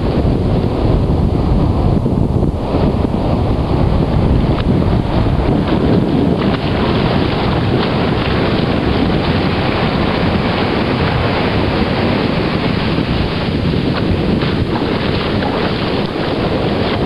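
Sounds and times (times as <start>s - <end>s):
surf washing on shore: 0.0s - 17.0s
wind buffeting microphone: 0.0s - 17.0s.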